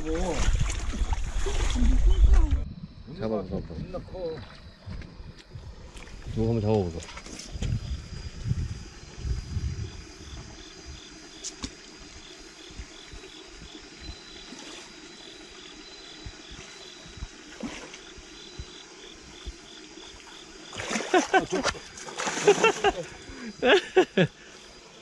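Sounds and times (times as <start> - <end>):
creek running: 0.0 - 2.6, 3.3 - 25.0
high insect trill: 0.0 - 25.0
insects chirping: 0.0 - 25.0.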